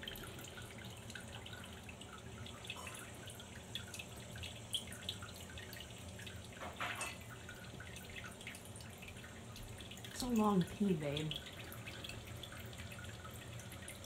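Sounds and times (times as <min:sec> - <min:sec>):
urine trickling into toilet water: 0:00.0 - 0:14.0.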